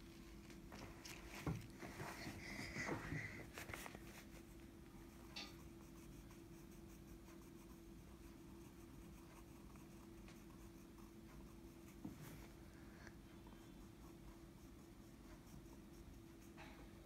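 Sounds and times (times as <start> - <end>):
steady low hum: 0.0 - 17.0
pencil scratching on paper: 2.0 - 12.7, 13.3 - 17.0.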